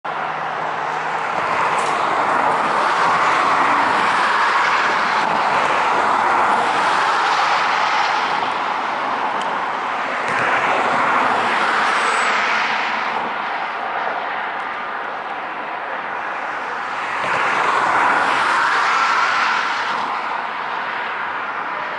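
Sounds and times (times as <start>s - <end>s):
road traffic rushing: 0.1s - 21.9s
tyre noise of passing vehicles: 0.1s - 21.9s.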